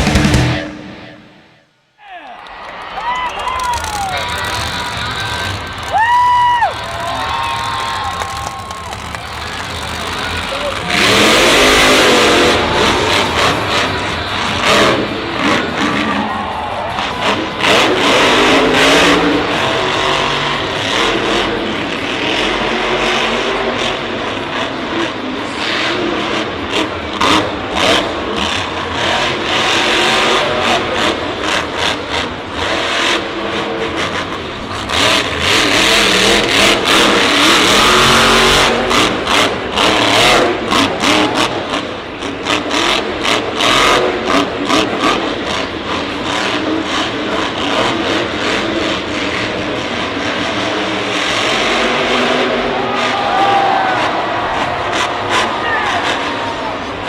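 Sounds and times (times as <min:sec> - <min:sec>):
truck engines revving: 0:00.0 - 0:01.7, 0:02.4 - 0:57.0.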